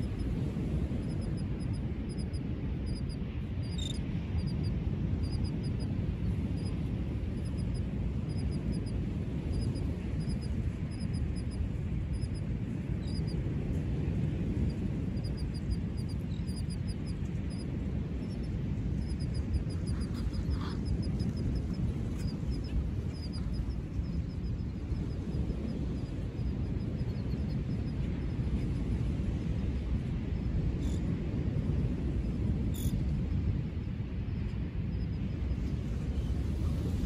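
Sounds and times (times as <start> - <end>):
wind: 0.0 - 37.0.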